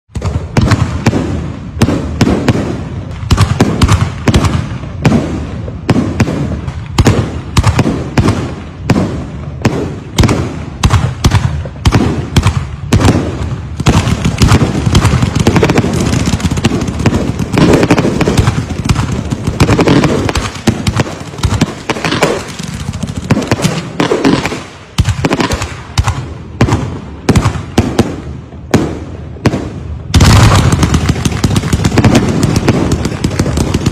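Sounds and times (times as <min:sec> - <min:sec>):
fireworks bangs and crackles: 0:00.1 - 0:33.9.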